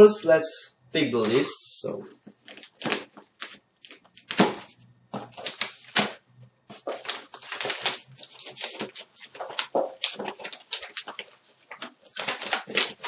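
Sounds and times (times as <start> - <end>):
plastic wrap crinkling and tearing: 2.1 - 13.0.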